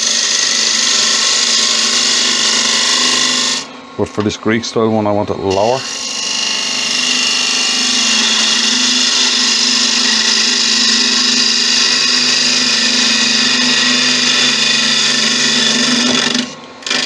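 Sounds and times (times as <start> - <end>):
turning tool shearing wood: 0.0 - 17.0
wood lathe whine: 0.0 - 17.0.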